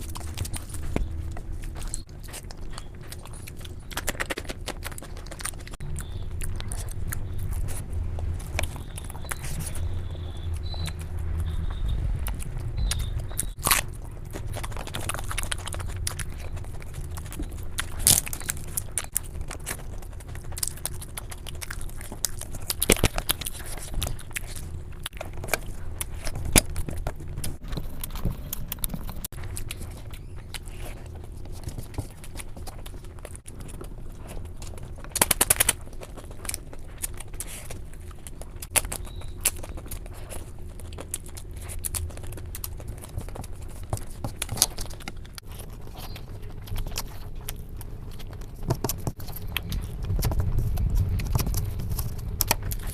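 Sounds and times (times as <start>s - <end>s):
close chewing with wet clicks: 0.0s - 52.9s.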